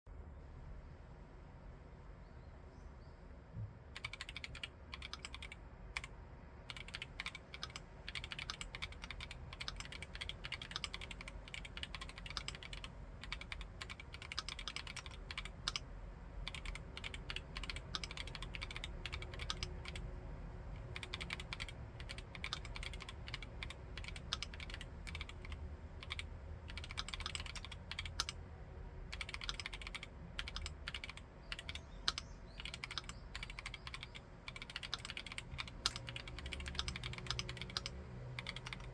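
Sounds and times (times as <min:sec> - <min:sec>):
mechanical keyboard typing: 0:04.0 - 0:06.1, 0:06.7 - 0:20.1, 0:20.8 - 0:28.4, 0:29.1 - 0:38.9.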